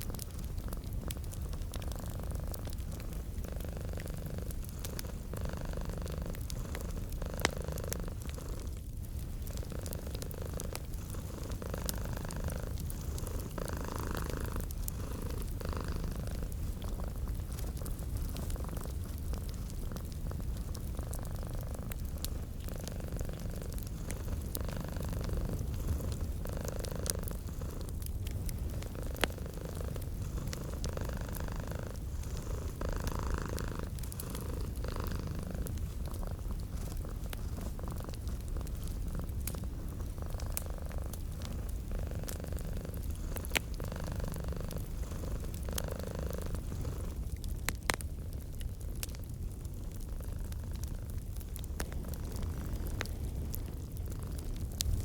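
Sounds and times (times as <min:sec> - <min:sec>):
cat purring: 0:00.0 - 0:55.0
wood fire crackling: 0:00.0 - 0:55.0.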